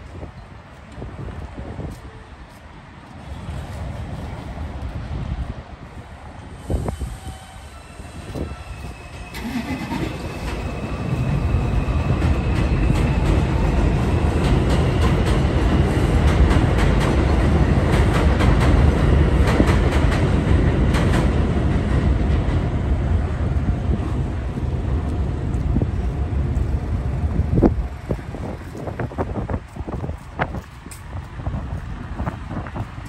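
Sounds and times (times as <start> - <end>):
train rumbling overhead: 0.0 - 33.0.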